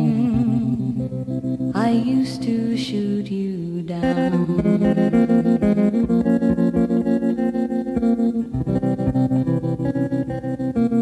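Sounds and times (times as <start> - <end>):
effected plucked guitar: 0.0 - 11.0.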